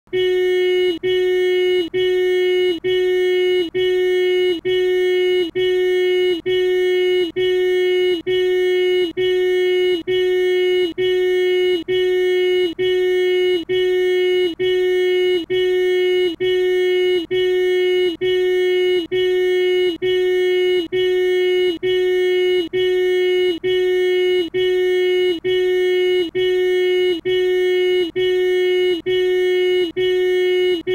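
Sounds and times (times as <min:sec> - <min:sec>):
car horn honking: 0:00.1 - 0:30.9.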